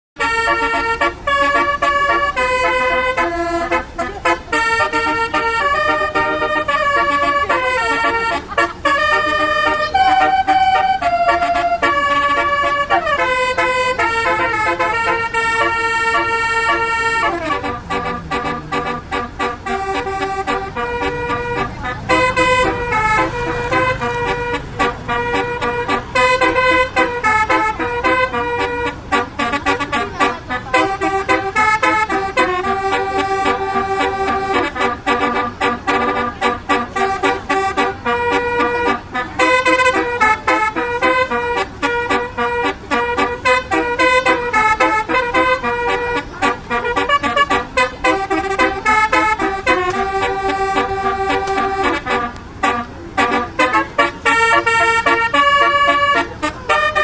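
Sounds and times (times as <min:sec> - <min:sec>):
multi-trumpet air horn melody: 0:00.2 - 0:57.0.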